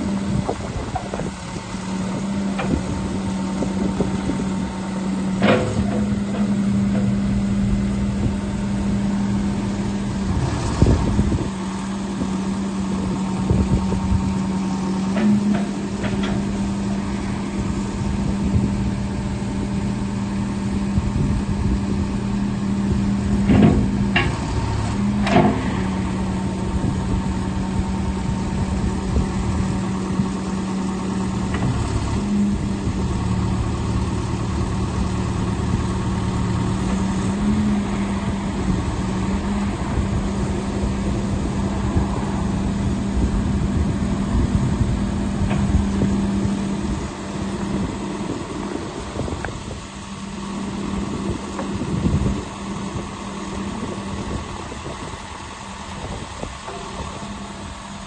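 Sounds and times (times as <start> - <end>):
diesel engine running: 0.0 - 58.0
backhoe arm clunks: 0.2 - 20.4, 23.1 - 42.1, 43.7 - 58.0.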